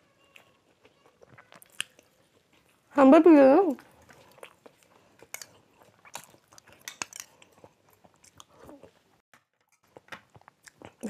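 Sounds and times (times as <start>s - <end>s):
chewing and mouth smacks: 0.3s - 2.9s, 3.8s - 11.0s.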